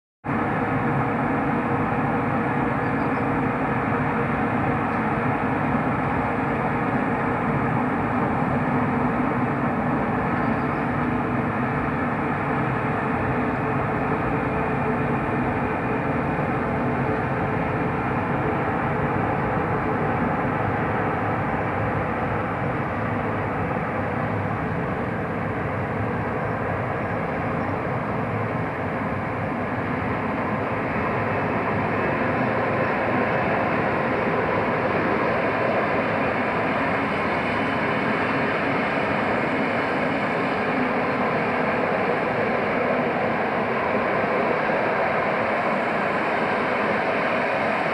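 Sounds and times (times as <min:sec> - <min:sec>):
train running: 0:00.3 - 0:47.9.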